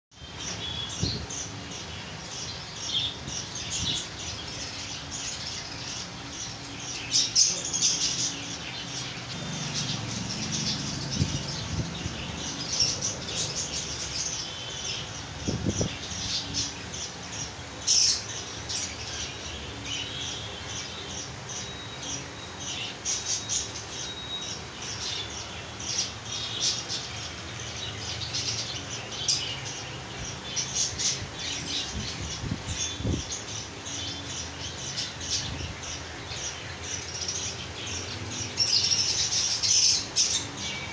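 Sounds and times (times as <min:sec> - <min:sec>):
budgerigars chattering and chirping: 0:00.2 - 0:40.9.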